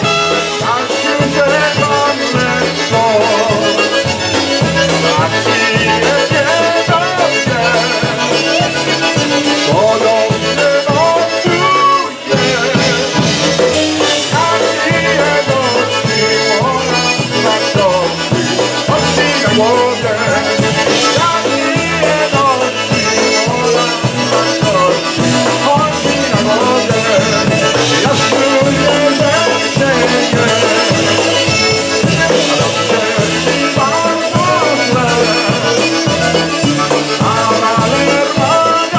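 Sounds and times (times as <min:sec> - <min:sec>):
polka band playing: 0:00.0 - 0:38.9.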